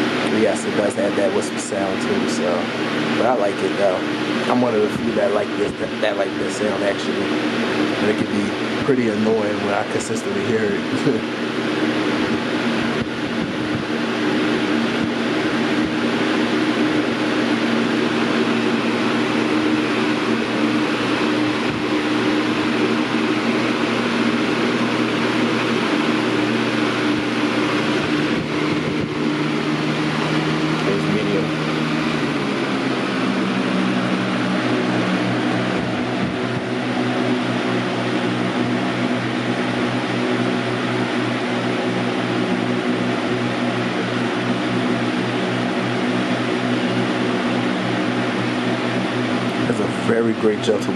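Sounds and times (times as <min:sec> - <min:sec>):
box fan running: 0:00.0 - 0:50.9.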